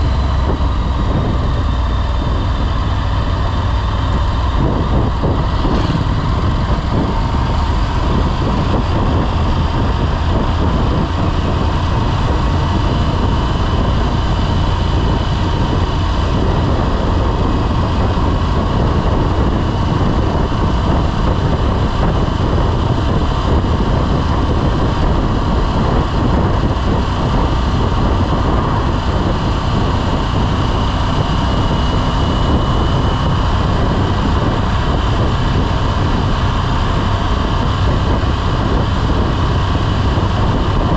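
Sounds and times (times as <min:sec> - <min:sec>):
motorcycle engine rumble: 0:00.0 - 0:40.9
wind noise on microphone: 0:00.0 - 0:40.9.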